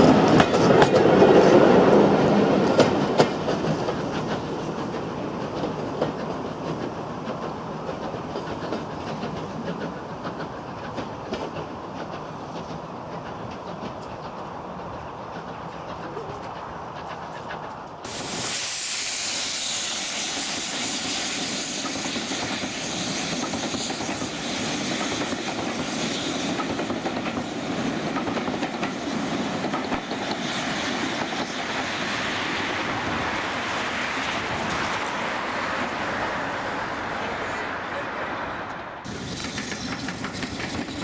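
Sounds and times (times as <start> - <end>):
train wheels clicking over rail joints: 0.0 - 33.4, 39.1 - 41.0
steam locomotive exhaust rush: 0.0 - 41.0.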